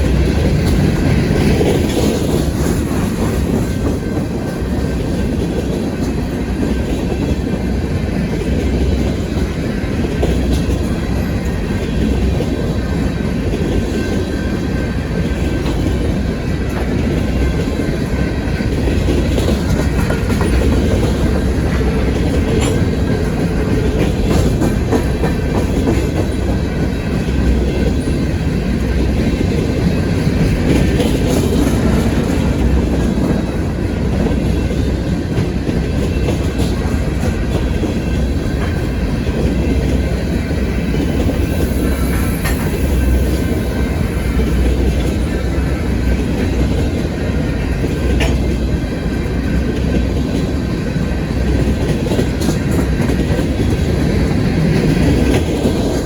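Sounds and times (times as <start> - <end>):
freight train cars rumbling past: 0.0 - 56.0
steel wheels clicking over rail joints: 0.0 - 56.0.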